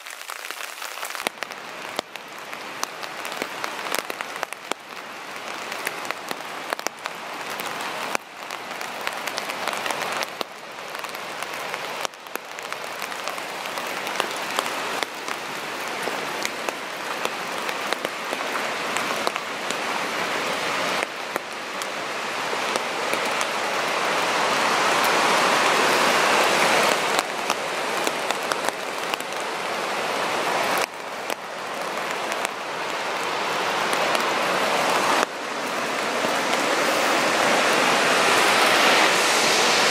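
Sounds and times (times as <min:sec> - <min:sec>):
waterfall and river rushing: 0:00.0 - 0:39.9.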